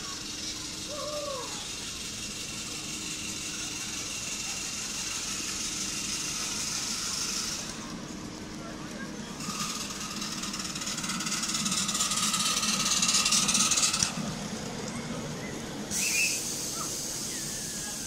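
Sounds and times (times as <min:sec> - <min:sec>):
miniature train running on track: 0:00.0 - 0:18.0.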